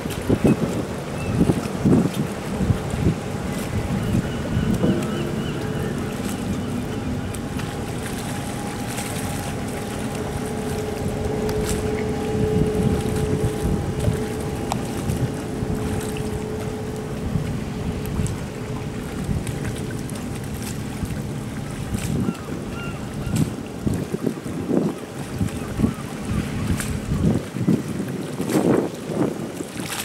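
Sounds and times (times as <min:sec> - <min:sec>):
ship engine rumble: 0:00.0 - 0:30.0
wind buffeting microphone: 0:00.0 - 0:30.0.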